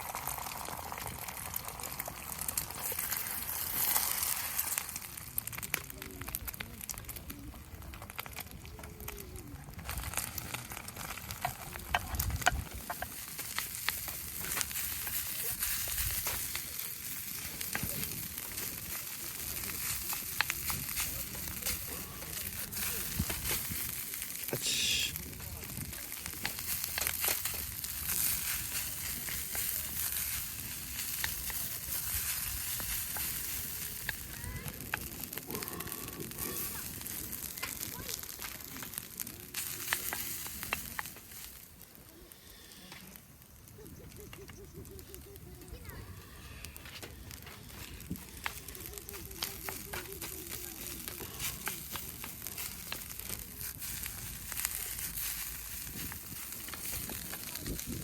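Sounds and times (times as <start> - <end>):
campfire crackling: 0.0 - 58.0
food sizzling in a frying pan: 0.0 - 58.0.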